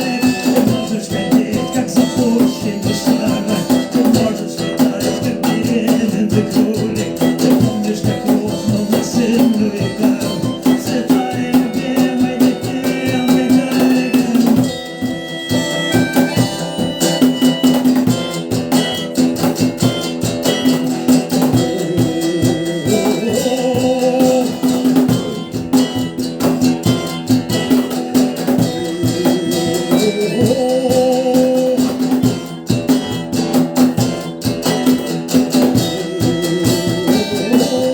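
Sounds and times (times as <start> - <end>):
drums: 0.0 - 37.9
electric guitar: 0.0 - 37.9
rattling percussion: 0.0 - 37.9
rock band playing live: 0.0 - 37.9.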